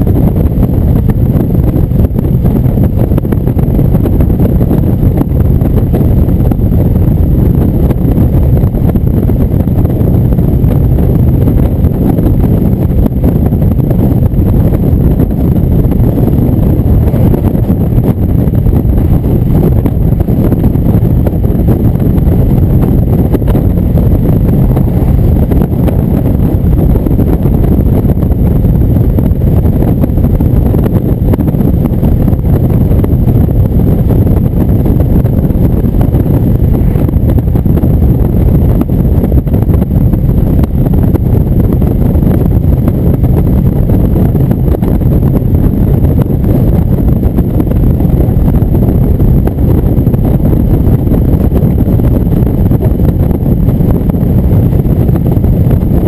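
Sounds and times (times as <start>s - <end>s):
motorcycle engine drone: 0.0s - 56.0s
wind rushing on microphone: 0.0s - 56.0s.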